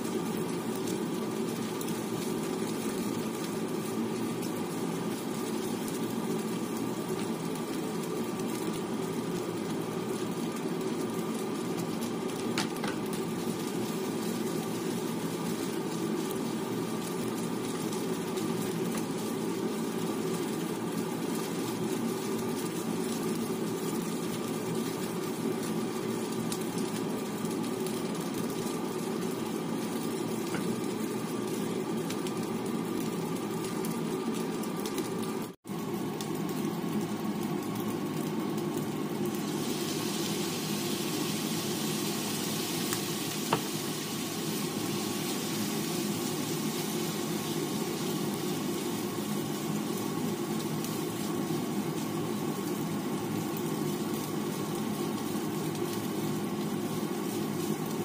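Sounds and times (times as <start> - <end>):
rice sizzling in a pan: 0.0 - 58.0.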